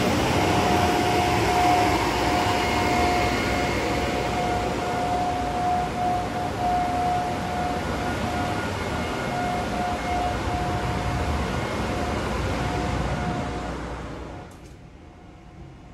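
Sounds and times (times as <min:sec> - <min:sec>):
high machinery whine: 0:00.0 - 0:14.5
engine-room machinery din: 0:00.0 - 0:14.6.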